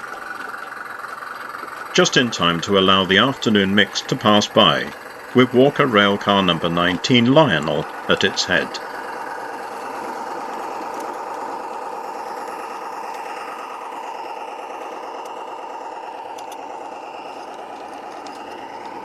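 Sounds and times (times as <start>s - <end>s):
faint clicks: 0.0s - 19.0s
model train mechanical drone: 0.0s - 19.0s.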